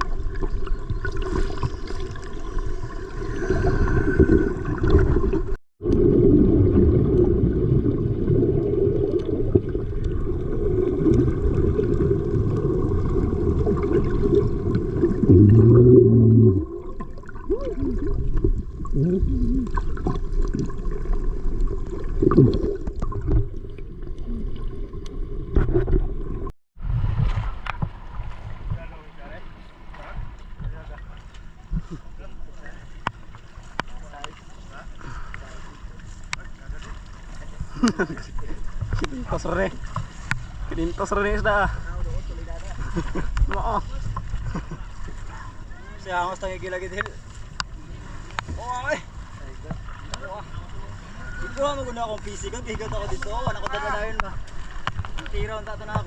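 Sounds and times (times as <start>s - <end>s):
muffled rumbling and gurgling water: 0.0s - 56.0s.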